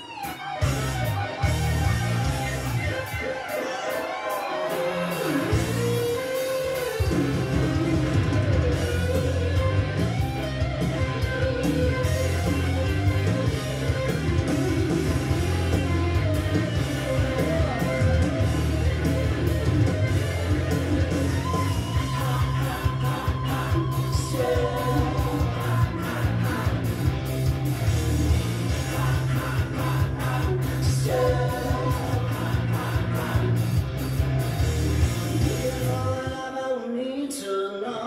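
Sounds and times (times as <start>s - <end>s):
rock song with guitar and singing: 0.0s - 38.0s.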